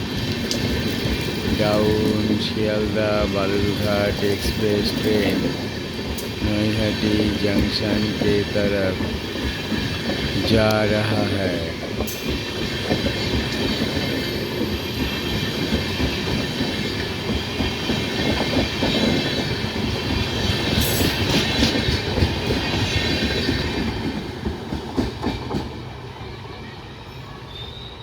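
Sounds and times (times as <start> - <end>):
train wheels clattering: 0.0 - 25.9.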